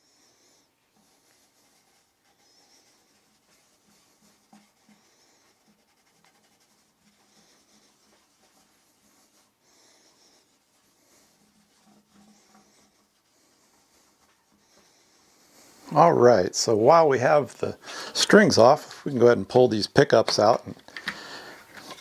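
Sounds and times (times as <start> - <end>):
cloth rubbing on guitar fingerboard: 0.9 - 19.6.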